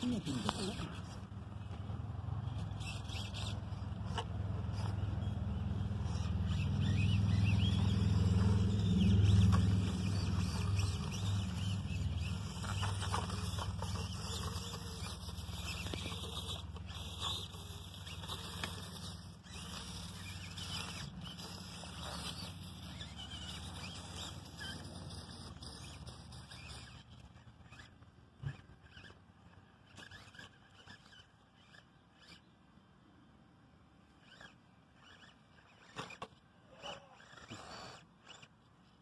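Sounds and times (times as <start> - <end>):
tyres scrabbling on dirt: 0.0 - 32.4, 34.2 - 39.0
small motors whirring: 0.0 - 39.0
light clicks and scrapes: 0.1 - 5.3, 6.0 - 29.2, 29.8 - 32.4, 34.1 - 39.0.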